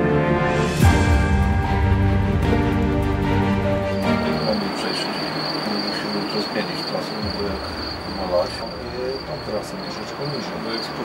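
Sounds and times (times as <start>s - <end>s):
crickets trilling: 1.6s - 11.0s.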